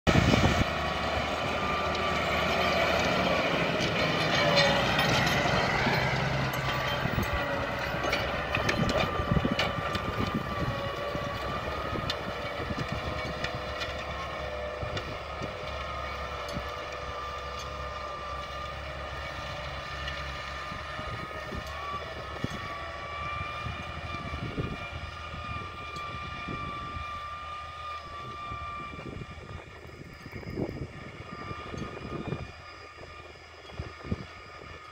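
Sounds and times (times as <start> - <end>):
tractor diesel engine under load: 0.1 - 34.9.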